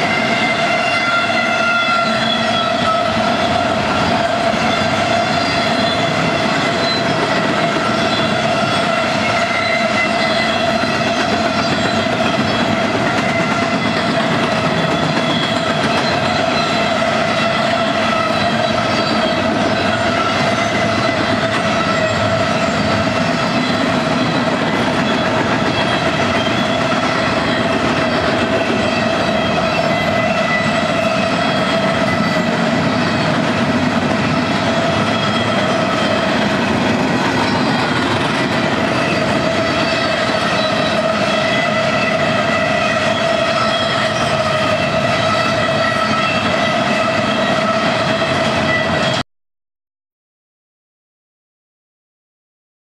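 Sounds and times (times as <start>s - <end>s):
train wheels rolling on rails: 0.0s - 49.2s.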